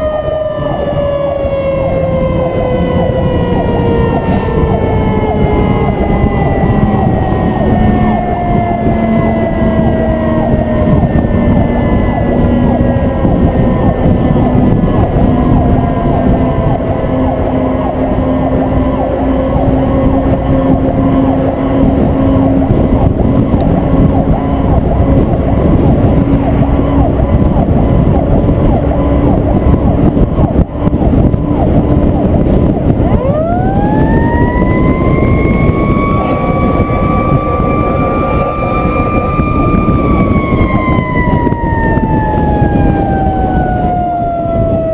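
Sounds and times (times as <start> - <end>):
fire truck siren: 0.0 - 44.9
heavy wind rush: 0.0 - 44.9
truck drone: 0.0 - 44.9.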